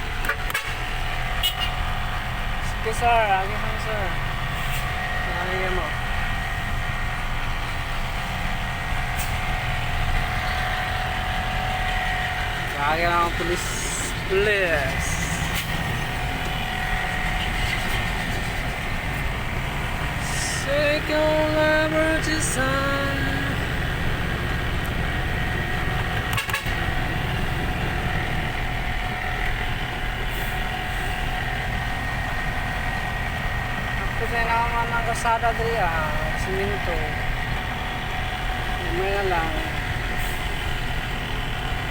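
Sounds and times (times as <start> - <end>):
road noise: 0.0 - 41.9
truck engine running: 0.0 - 41.9.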